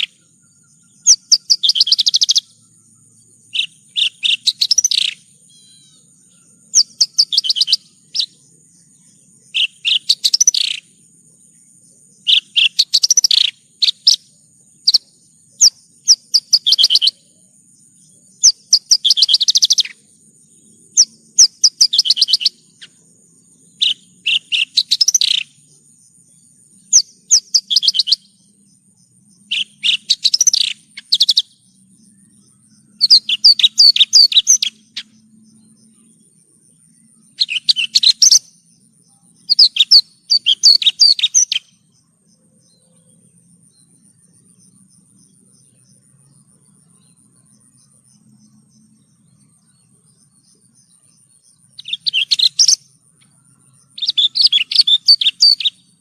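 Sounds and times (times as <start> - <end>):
lark singing rapid high chirps: 0.0 - 56.0.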